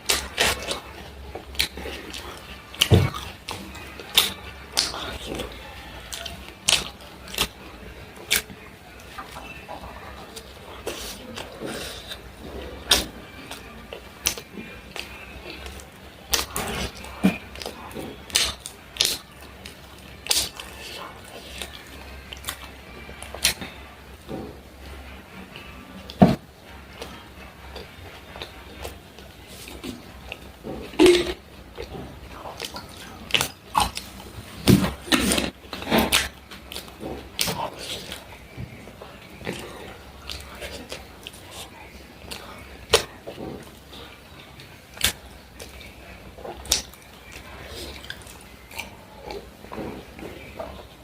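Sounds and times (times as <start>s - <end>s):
chewing with mouth smacks: 0.0s - 51.0s.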